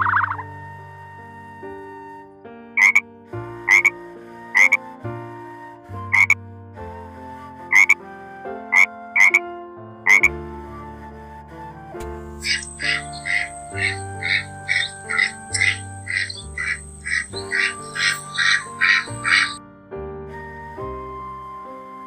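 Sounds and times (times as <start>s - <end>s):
background music with held notes: 0.0s - 22.0s.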